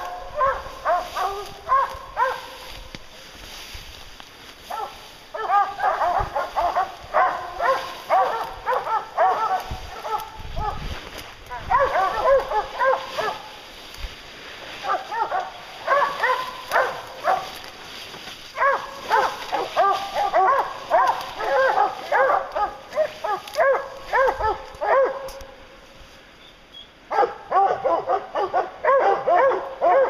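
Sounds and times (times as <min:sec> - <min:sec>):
hounds baying and barking: 0:00.0 - 0:03.4, 0:04.5 - 0:13.7, 0:14.6 - 0:25.6, 0:27.1 - 0:30.0.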